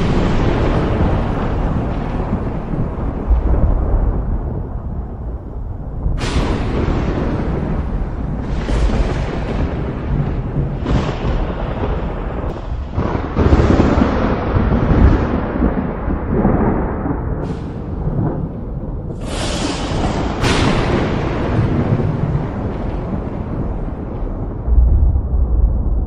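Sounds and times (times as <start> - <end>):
thunder cracks and rumbles: 0.0 - 26.0.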